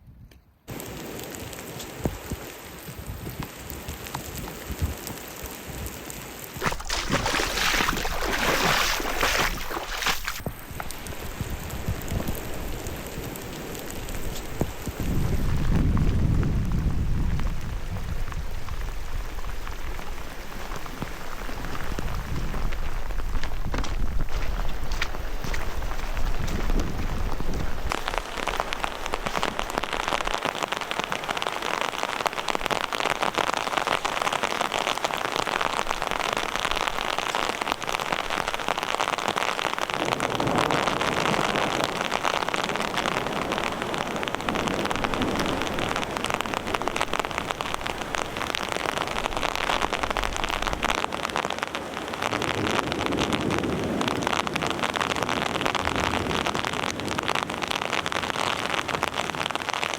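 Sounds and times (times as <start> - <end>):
steady rain: 0.7 - 59.9.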